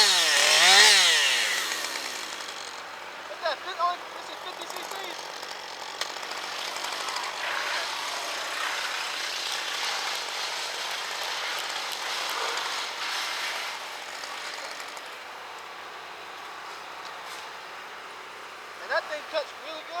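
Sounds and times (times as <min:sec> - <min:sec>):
chainsaw cutting wood: 0:00.0 - 0:17.6.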